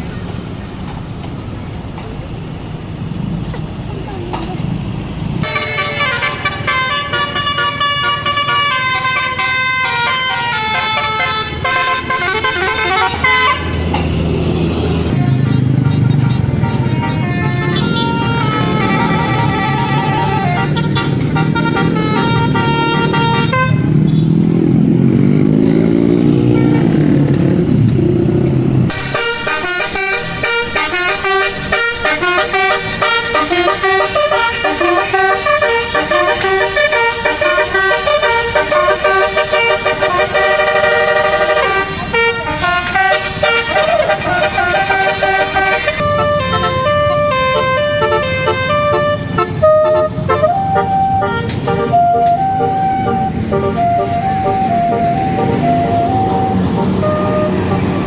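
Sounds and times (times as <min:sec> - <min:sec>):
musical air horn melody: 0:05.4 - 0:24.0, 0:28.9 - 0:58.0.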